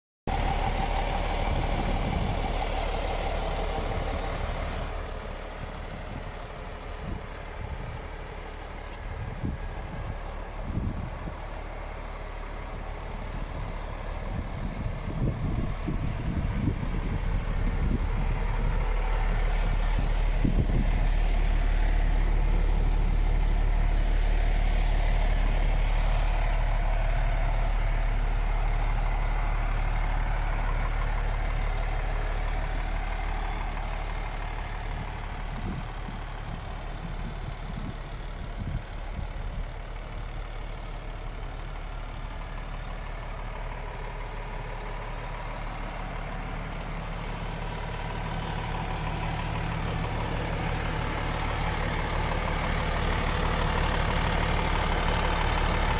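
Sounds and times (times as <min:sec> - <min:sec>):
diesel truck engine idling: 0:00.3 - 0:55.9.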